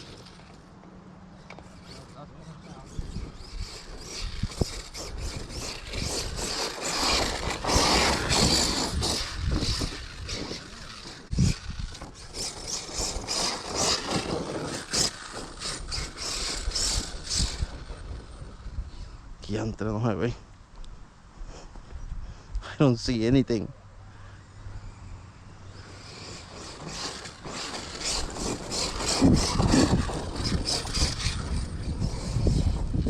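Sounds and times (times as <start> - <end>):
rc truck tyres scraping gravel: 0.0 - 0.8, 1.4 - 20.4, 24.3 - 33.0.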